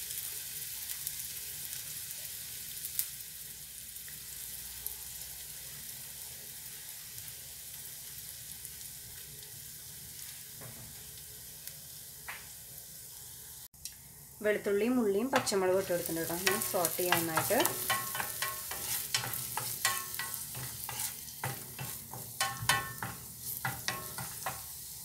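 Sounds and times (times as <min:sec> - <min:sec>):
onion and garlic sizzling in oil: 0:00.0 - 0:25.0.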